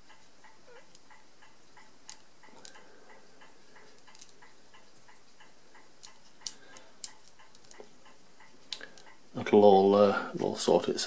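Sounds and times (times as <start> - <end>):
faint even ticking: 0.0 - 9.9.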